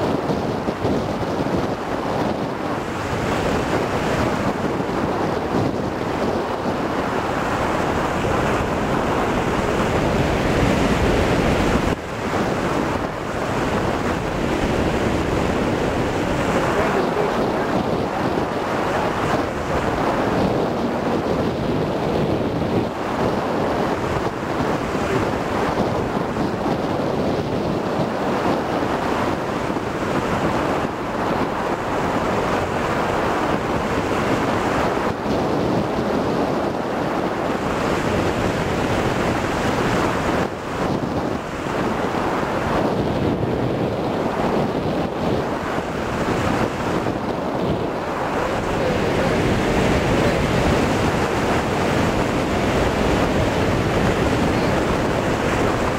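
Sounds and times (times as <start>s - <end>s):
wind roaring over microphone: 0.0s - 55.9s.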